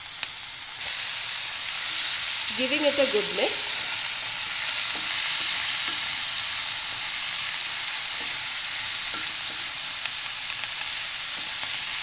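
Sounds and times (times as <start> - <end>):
vegetables sizzling in pan: 0.0 - 12.0.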